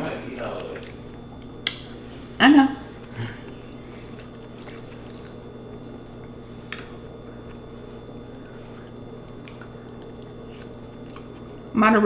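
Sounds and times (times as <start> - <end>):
mouth eating sounds: 0.0 - 11.8
low steady hum: 0.0 - 12.0.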